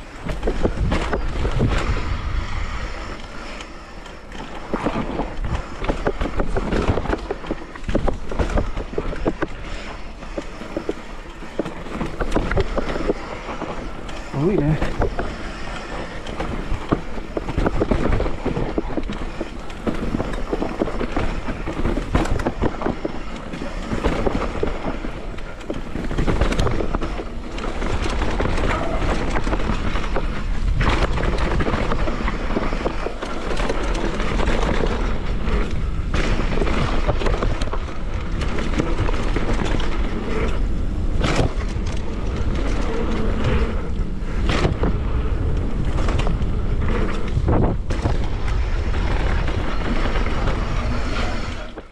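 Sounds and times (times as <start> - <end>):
bike knocks and rattles: 0.0 - 51.9
tyre and wind rush: 0.0 - 51.9.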